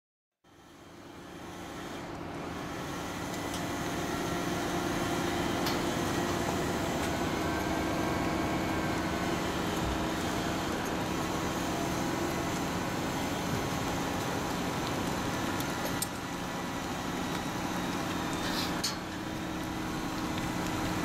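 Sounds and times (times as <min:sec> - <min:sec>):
outdoor noise: 0:00.4 - 0:21.0
crane diesel engine humming: 0:00.5 - 0:21.0.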